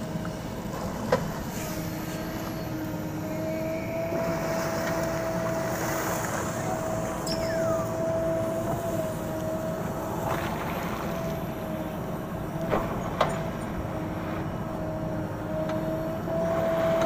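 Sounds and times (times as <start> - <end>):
diesel engine running: 0.0 - 17.0
steady whine: 1.6 - 16.3.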